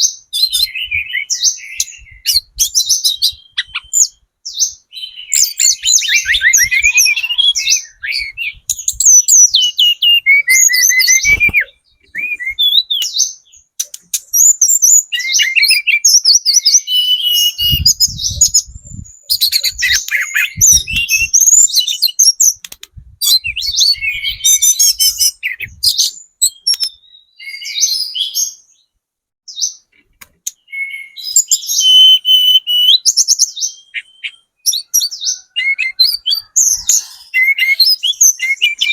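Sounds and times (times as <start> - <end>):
bird twittering: 0.0 - 28.8, 29.5 - 38.9.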